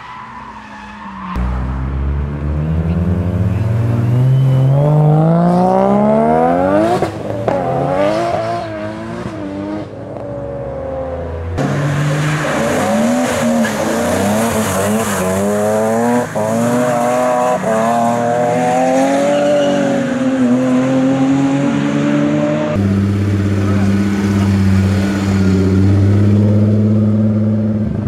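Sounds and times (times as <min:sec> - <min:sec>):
car revving and pulling away: 0:01.2 - 0:28.0.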